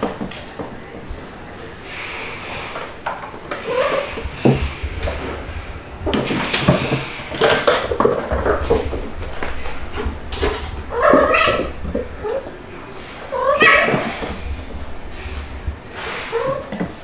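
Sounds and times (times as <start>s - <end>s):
kittens knocking against plastic bin: 2.8s - 17.0s.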